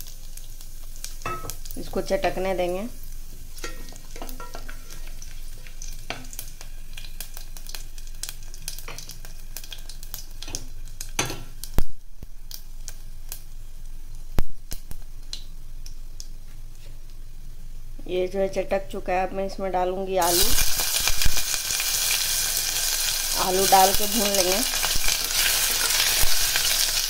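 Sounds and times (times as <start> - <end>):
spices crackling in hot oil: 0.0 - 19.1, 19.8 - 27.0.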